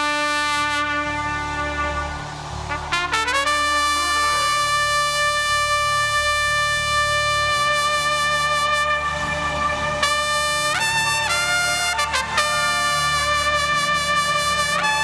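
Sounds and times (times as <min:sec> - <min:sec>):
trumpet holding long note: 0:00.0 - 0:15.0.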